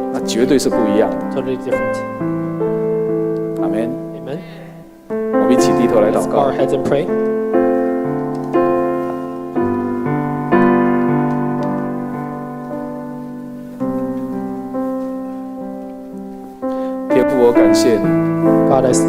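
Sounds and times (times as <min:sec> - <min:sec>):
piano playing soft chords: 0:00.0 - 0:19.0.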